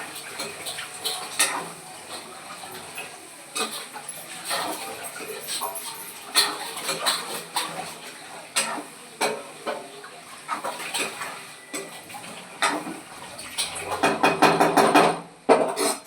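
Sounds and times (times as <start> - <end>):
dishes and utensils clattering: 0.0 - 16.0.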